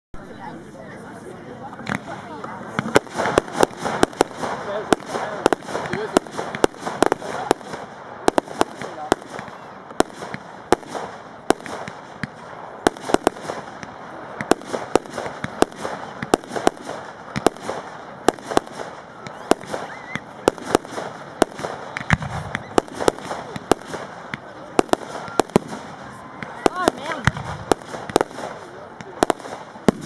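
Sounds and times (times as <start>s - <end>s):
fireworks bursting with sharp bangs: 1.7s - 30.0s.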